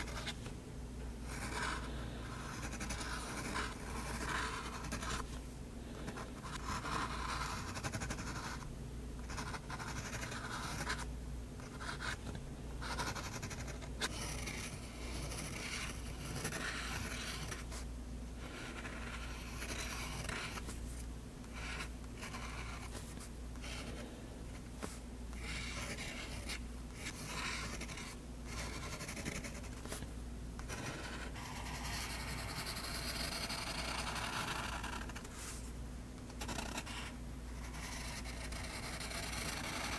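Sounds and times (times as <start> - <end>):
fountain pen scratching on paper: 0.0 - 0.4, 1.3 - 5.2, 6.1 - 8.6, 9.2 - 17.8, 18.4 - 20.7, 21.5 - 24.0, 24.8 - 30.0, 30.6 - 35.6, 36.4 - 39.9.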